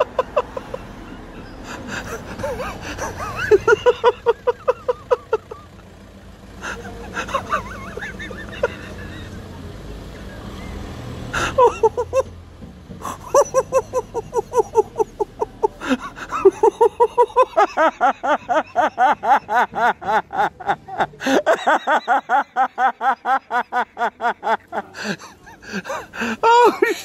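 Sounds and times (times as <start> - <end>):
person laughing breathlessly: 0.0 - 5.7, 6.6 - 9.4, 11.3 - 12.3, 13.0 - 27.0.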